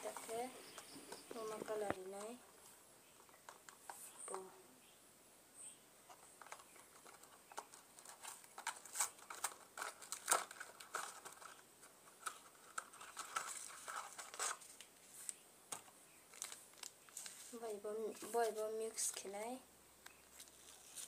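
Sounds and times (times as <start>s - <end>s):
cardboard and paper crinkling: 0.0s - 4.4s, 6.1s - 19.6s, 20.2s - 21.0s.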